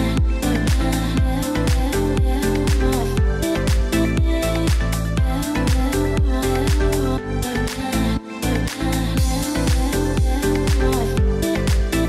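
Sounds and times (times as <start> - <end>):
steady kick drum: 0.0 - 7.1, 9.2 - 12.0
held synth chords: 0.0 - 12.0.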